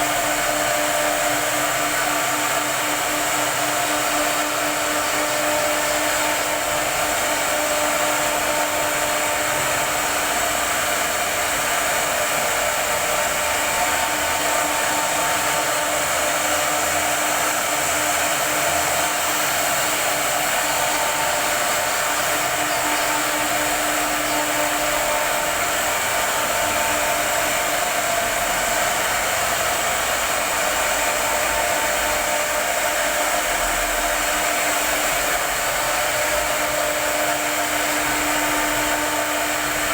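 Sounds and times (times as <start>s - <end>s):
router spindle motor whirring: 0.0s - 39.9s.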